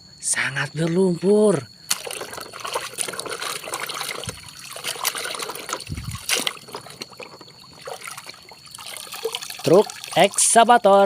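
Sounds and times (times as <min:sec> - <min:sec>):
water trickling and splashing: 0:00.8 - 0:11.0.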